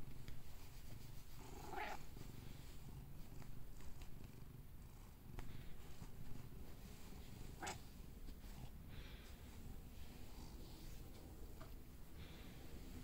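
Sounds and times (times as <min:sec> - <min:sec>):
cat purring: 0:00.1 - 0:13.0.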